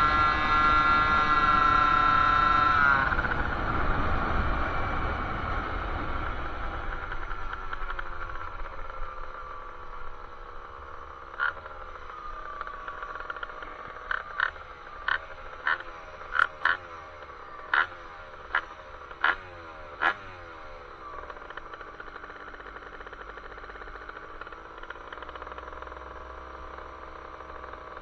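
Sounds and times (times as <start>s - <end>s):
moped two-stroke engine revving: 0.0s - 28.0s.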